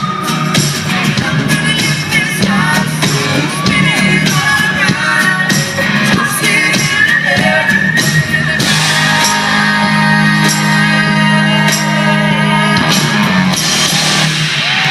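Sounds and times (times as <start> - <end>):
drum and cymbal hits: 0.0 - 14.9
live band playing: 0.0 - 14.9.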